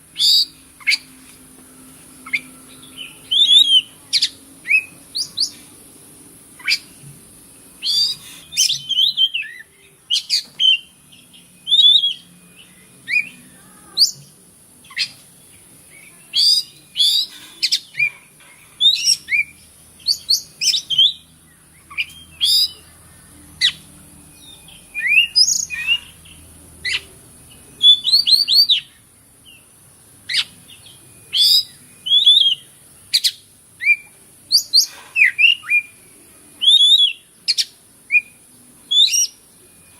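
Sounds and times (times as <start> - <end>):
steady high hiss: 0.0 - 39.9
bird singing whistles and chatters: 0.1 - 1.1, 2.2 - 5.6, 7.8 - 15.2, 15.9 - 18.2, 18.8 - 29.6, 30.3 - 39.9.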